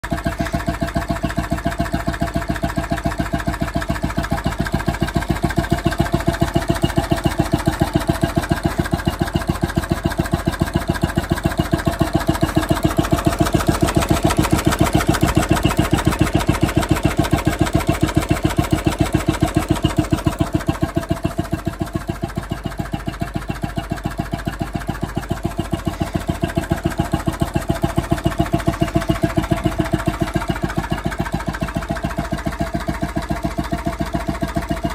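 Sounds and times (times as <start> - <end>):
stationary engine running: 0.0 - 34.9.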